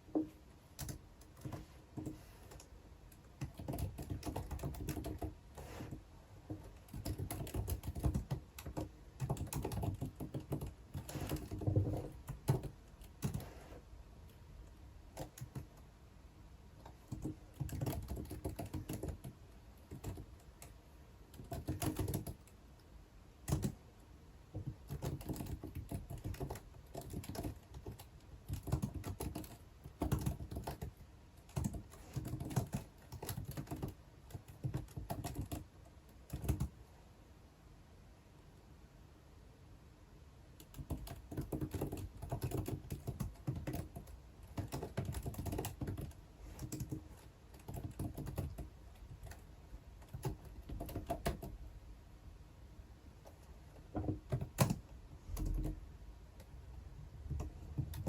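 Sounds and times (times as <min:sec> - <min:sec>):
typing on computer keyboard: 0:00.1 - 0:13.6, 0:15.1 - 0:15.8, 0:16.8 - 0:22.6, 0:23.4 - 0:23.8, 0:24.5 - 0:36.8, 0:40.6 - 0:51.6, 0:53.2 - 0:55.8, 0:57.3 - 0:58.0.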